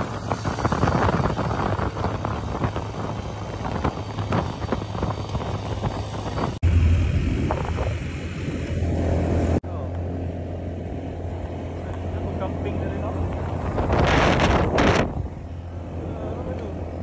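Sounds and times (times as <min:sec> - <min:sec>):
wind noise on microphone: 0:00.0 - 0:09.6, 0:12.8 - 0:17.0
vehicle engine hum: 0:00.0 - 0:17.0.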